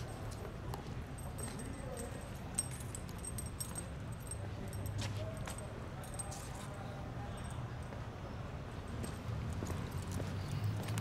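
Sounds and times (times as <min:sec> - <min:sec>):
light metallic jingling: 0:00.0 - 0:11.0.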